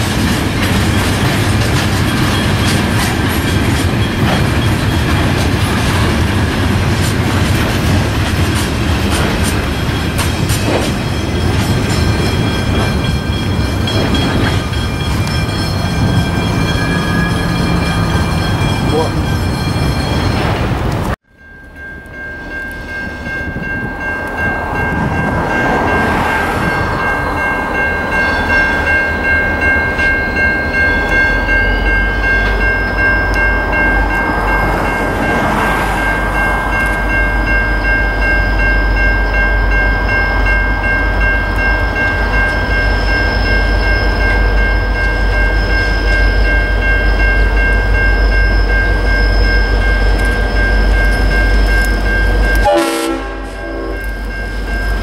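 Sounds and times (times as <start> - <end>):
diesel train rumble: 0.0 - 55.0
level crossing bells ringing: 9.4 - 20.7, 21.3 - 55.0.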